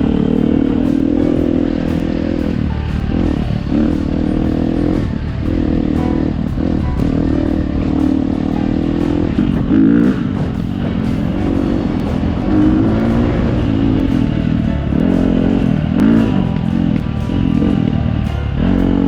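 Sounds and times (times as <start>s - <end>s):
background music: 0.0s - 19.0s
dirt bike engine revving: 0.0s - 19.0s.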